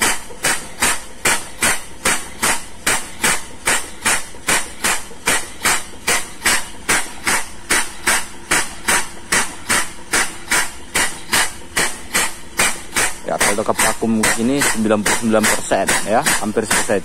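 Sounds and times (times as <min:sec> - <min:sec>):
diaphragm pump knocking and puffing air: 0:00.0 - 0:17.0.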